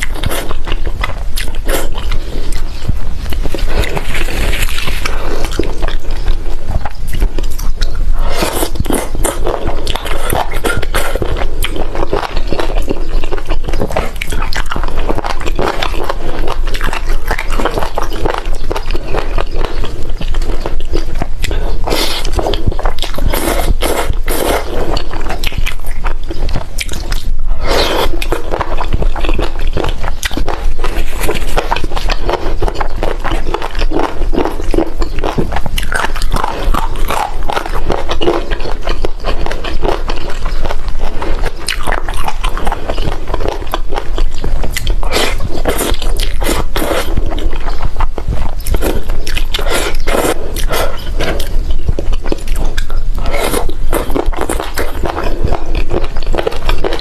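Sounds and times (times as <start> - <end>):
wet chewing and biting: 0.0 - 57.0.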